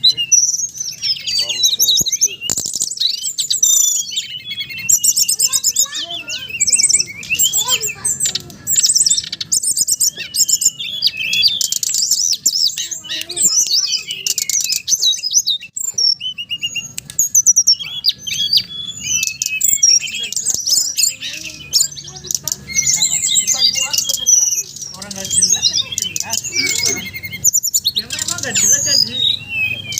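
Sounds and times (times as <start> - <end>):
songbird chirps and trills: 0.0 - 29.9.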